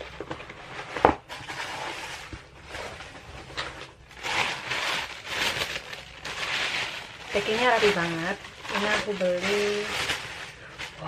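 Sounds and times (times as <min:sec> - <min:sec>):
packing wrap rustling: 0:00.0 - 0:11.0.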